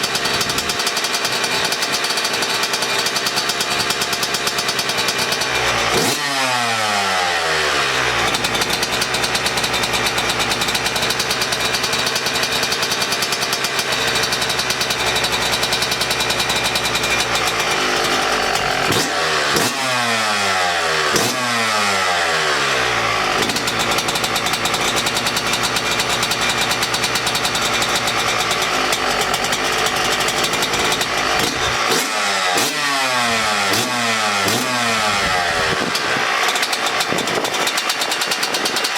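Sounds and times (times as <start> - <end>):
two-stroke engine idling: 0.0 - 38.9
engine throttle blips: 4.2 - 38.9.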